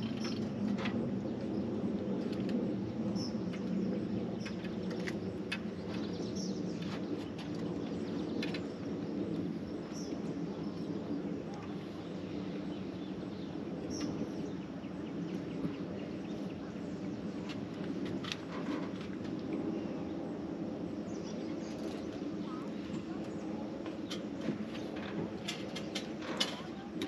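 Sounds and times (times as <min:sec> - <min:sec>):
low outdoor drone: 0:00.0 - 0:27.0.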